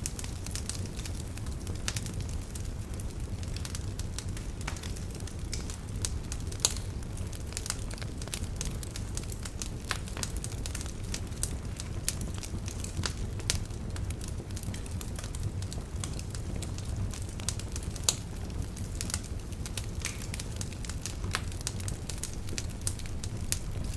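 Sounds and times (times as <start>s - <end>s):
low rumble of flames: 0.0s - 23.9s
wood fire crackling and popping: 0.0s - 23.9s.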